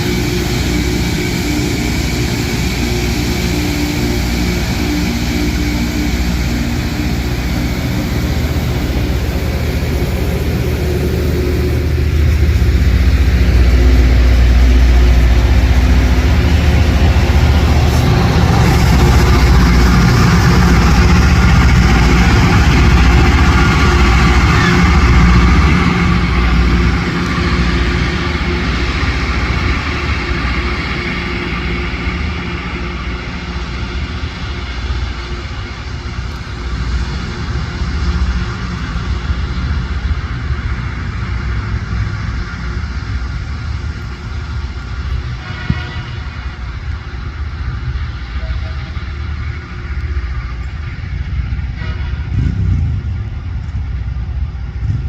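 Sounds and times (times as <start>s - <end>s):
diesel engines running: 0.0s - 55.0s
grinding stones hissing on rail: 0.0s - 55.0s.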